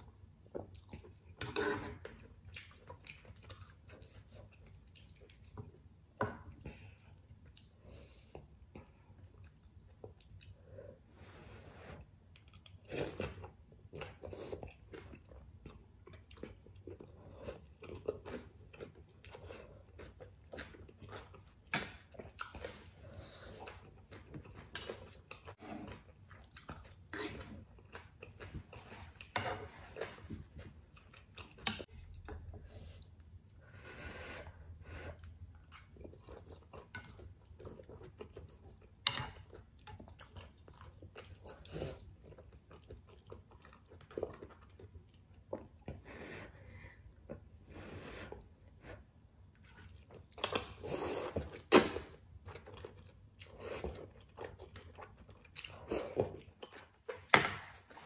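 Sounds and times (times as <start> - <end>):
person chewing noodles: 0.0 - 11.0, 11.8 - 57.3.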